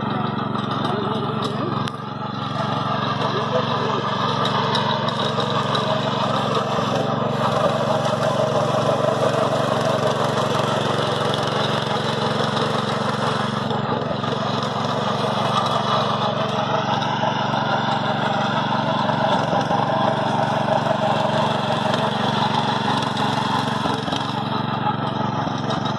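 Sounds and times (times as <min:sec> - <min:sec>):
small engine running under load: 0:00.0 - 0:25.9
tines churning soil: 0:00.0 - 0:25.9.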